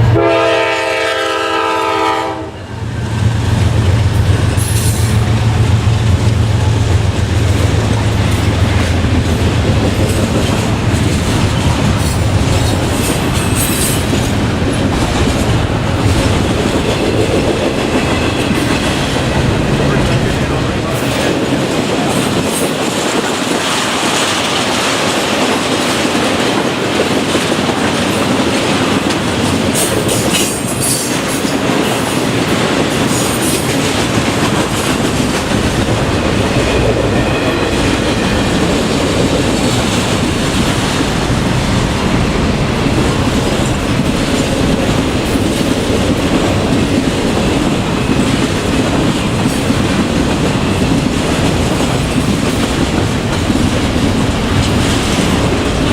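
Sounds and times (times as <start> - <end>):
freight train wheels rumbling on rail: 0.0 - 55.9.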